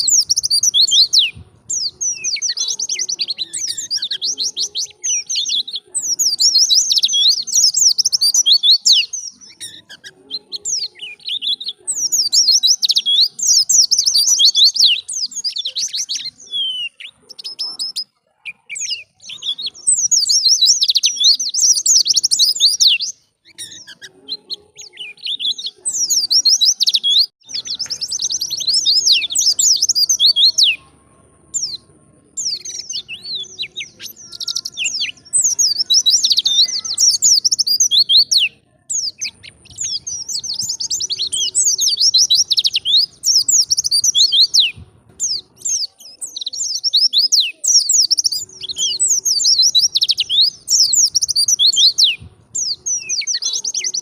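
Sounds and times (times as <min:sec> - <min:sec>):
bird singing warbling song: 0:00.0 - 0:54.0.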